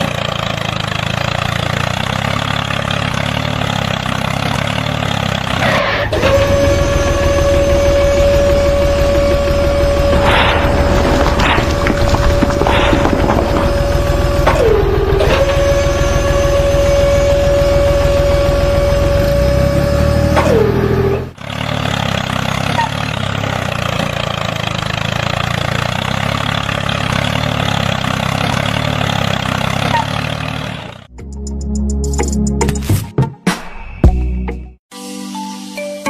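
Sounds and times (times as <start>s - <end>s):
engine whine: 0.0s - 31.5s
tractor engine running: 0.0s - 32.6s.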